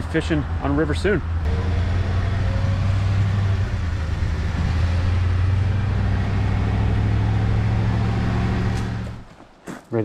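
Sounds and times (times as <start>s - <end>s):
engine and drivetrain hum: 0.0s - 9.4s
tyre and road noise: 0.0s - 10.0s.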